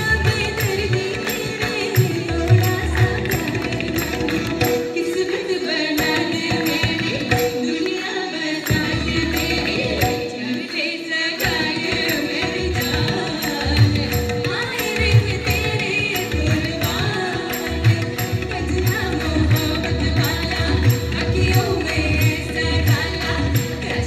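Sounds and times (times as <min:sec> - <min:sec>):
tabla: 0:00.0 - 0:24.0
women singing: 0:00.0 - 0:24.0.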